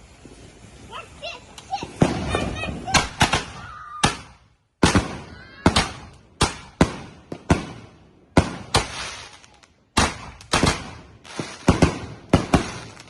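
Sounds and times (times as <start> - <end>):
fireworks bangs with echo: 1.7 - 13.0.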